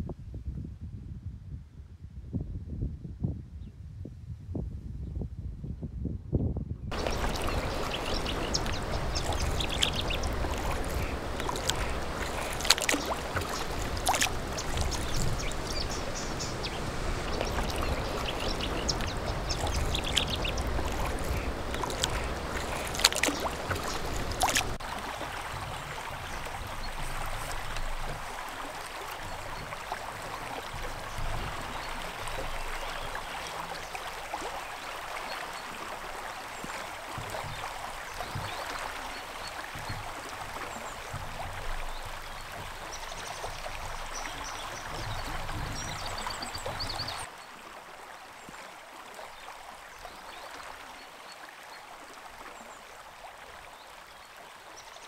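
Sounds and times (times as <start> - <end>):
kayak paddle splashing: 6.9 - 55.0
river water rushing: 6.9 - 55.0
water sloshing along hull: 6.9 - 55.0.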